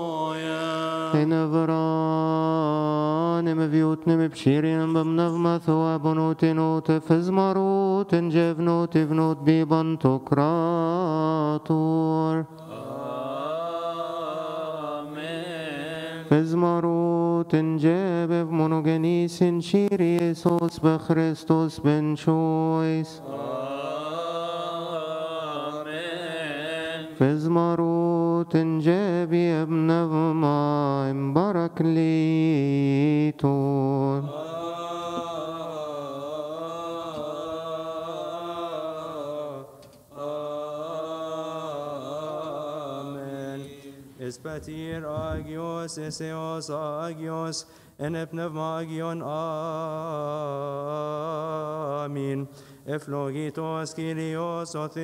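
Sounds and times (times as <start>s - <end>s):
men chanting a hymn: 0.0s - 19.2s, 20.5s - 55.0s.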